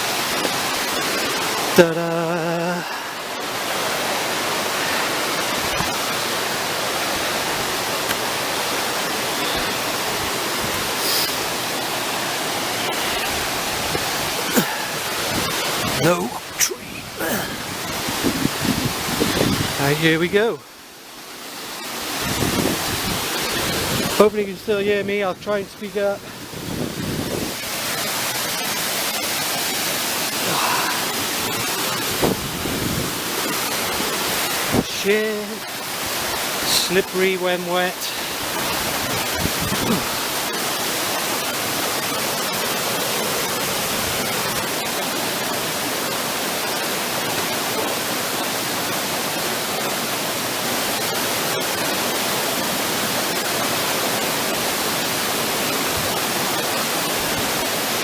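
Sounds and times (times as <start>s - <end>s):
waterfall rushing: 0.0s - 24.6s, 25.8s - 58.0s.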